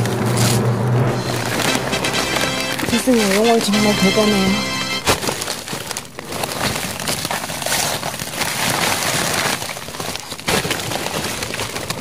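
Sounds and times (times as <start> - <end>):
plastic sheeting crinkling: 0.0 - 12.0.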